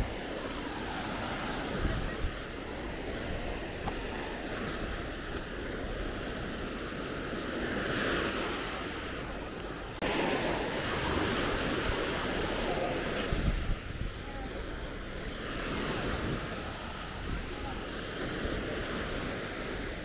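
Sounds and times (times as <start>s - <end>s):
surf washing onto beach: 0.0s - 20.0s
wind rumbling on microphone: 0.0s - 20.0s.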